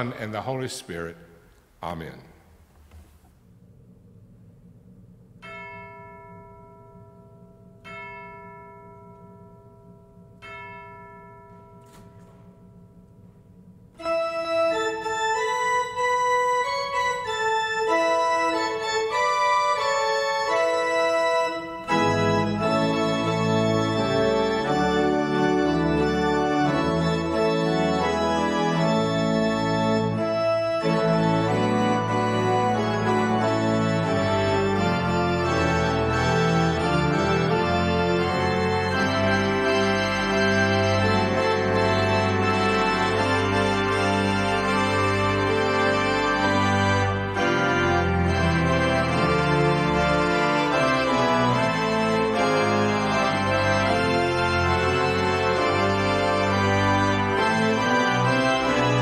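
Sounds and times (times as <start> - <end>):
pipe organ music: 0.0 - 59.0.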